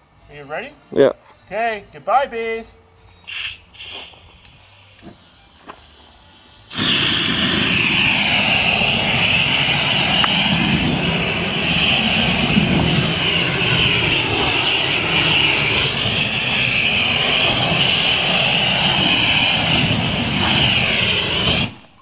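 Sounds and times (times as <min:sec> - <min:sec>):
flame torch rushing: 0:03.3 - 0:22.0.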